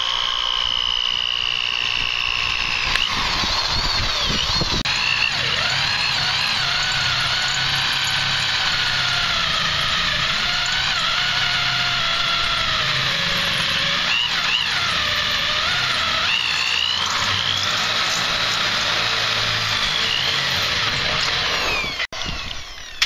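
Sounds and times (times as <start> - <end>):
power drill boring through steel: 0.0 - 23.0.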